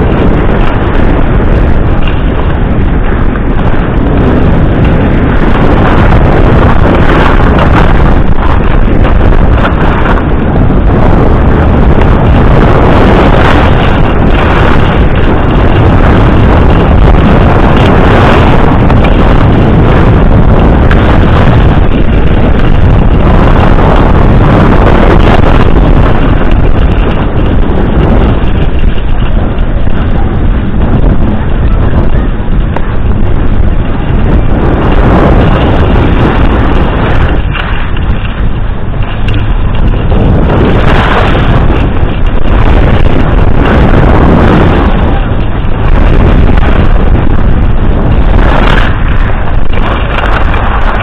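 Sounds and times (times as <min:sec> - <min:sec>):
skis sliding on snow: 0:00.0 - 0:51.0
wind rushing on microphone: 0:00.0 - 0:51.0.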